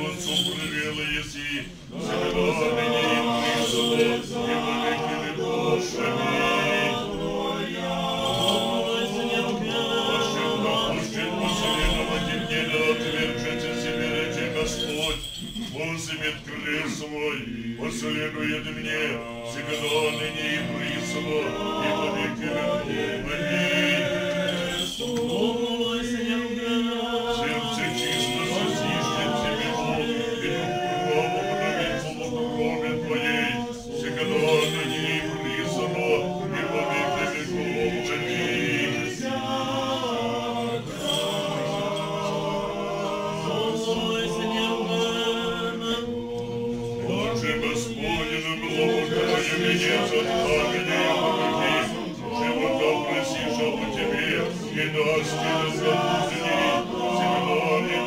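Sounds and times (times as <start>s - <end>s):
choir singing chant a cappella: 0.0s - 58.0s.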